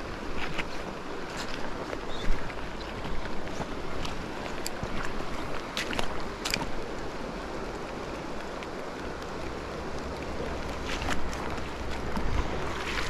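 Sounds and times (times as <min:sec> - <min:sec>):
river water running: 0:00.0 - 0:13.0
wind rumbling on microphone: 0:00.0 - 0:13.0.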